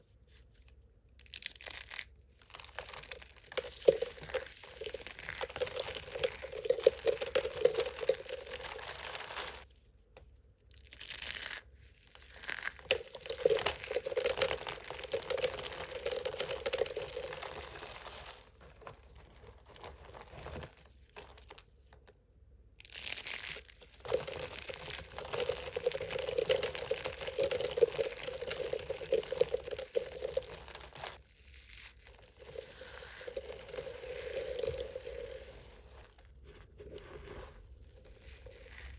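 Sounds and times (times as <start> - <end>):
dry soap crunching and crumbling: 0.3 - 9.7, 10.6 - 21.8, 22.7 - 38.9.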